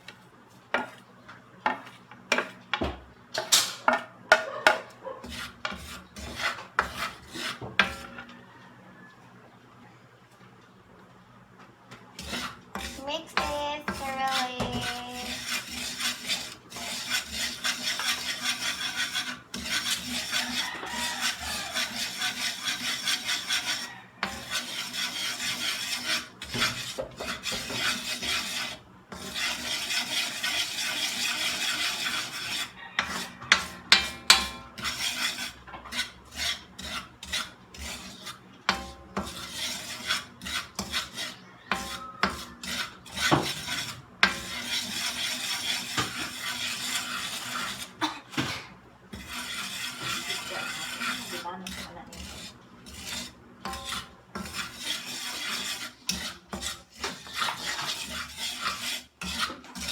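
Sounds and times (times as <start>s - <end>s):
spoon scraping a pot: 3.4s - 8.6s, 12.2s - 59.9s.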